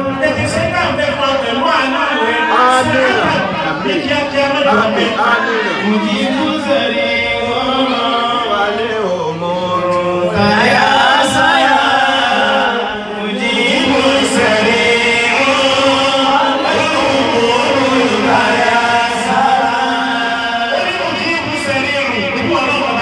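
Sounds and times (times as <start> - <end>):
man chanting into a microphone: 0.0 - 23.0.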